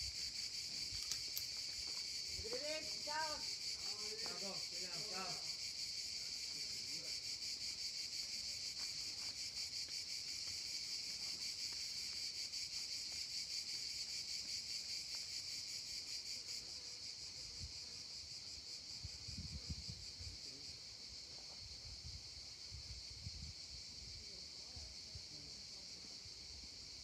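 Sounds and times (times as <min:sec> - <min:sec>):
cicadas singing: 0:00.0 - 0:27.0.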